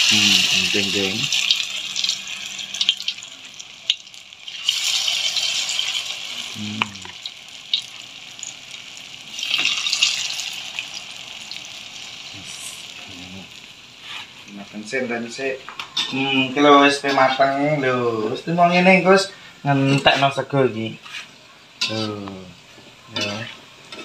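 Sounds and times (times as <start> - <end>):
food sizzling in hot oil: 0.0 - 18.1, 19.7 - 24.0.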